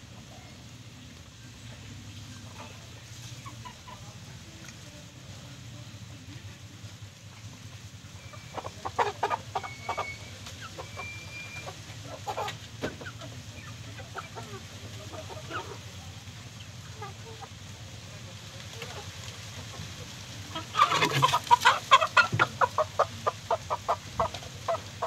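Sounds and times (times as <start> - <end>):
chickens clucking and squawking: 0.0 - 25.0.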